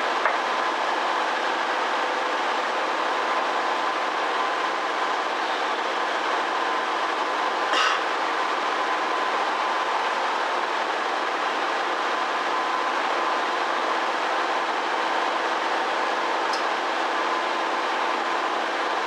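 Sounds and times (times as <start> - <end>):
faint train whine: 0.0 - 19.0.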